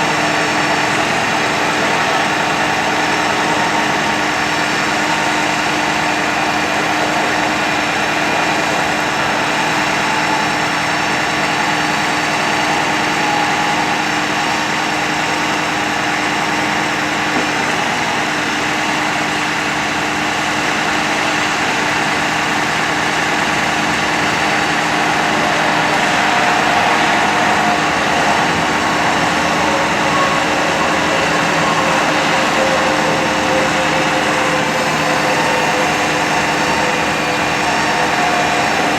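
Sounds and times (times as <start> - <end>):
faint hydraulic pump whine: 0.0 - 38.9
truck engine idling: 0.0 - 38.9.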